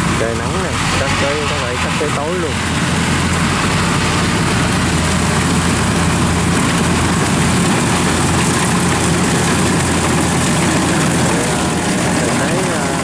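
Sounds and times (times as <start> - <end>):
combine harvester engine drone: 0.0 - 13.0
threshing machinery rushing: 0.0 - 13.0.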